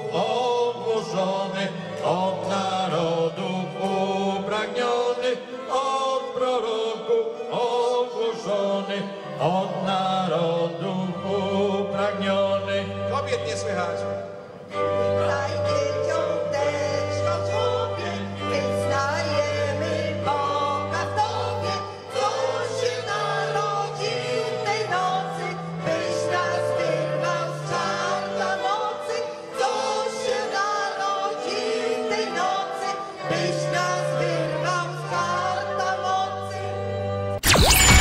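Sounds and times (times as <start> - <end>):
group singing a carol: 0.0 - 13.0, 15.0 - 37.0.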